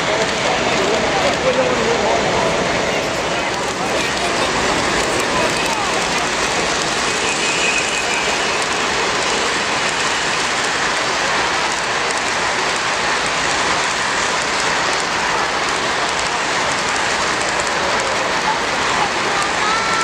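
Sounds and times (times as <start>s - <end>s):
model train wheels clattering: 0.0s - 20.0s.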